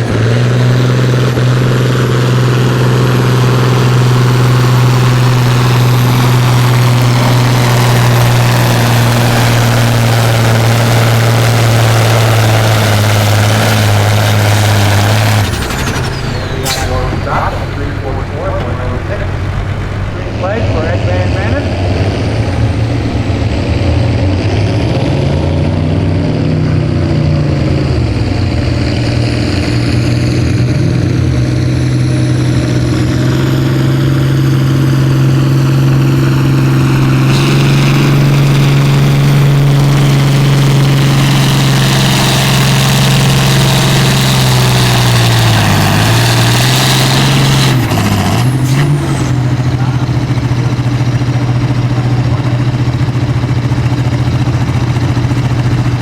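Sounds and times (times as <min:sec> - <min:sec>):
tractor diesel engine running hard: 0:00.0 - 0:56.0.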